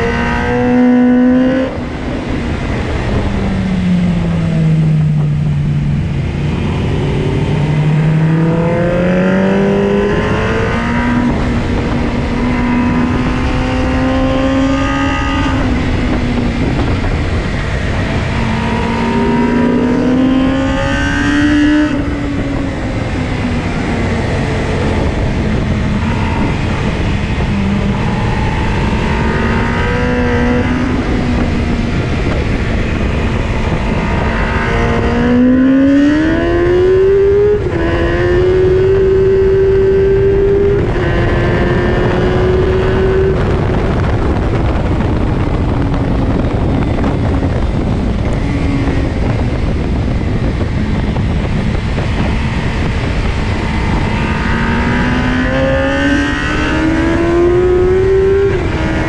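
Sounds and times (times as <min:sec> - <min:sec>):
motorcycle engine accelerating: 0:00.0 - 0:59.0
wind rushing: 0:00.0 - 0:59.0.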